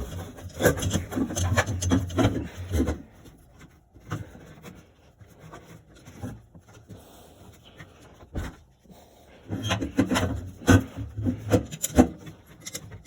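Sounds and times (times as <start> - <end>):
rubbing and scraping strokes: 0.0 - 13.0.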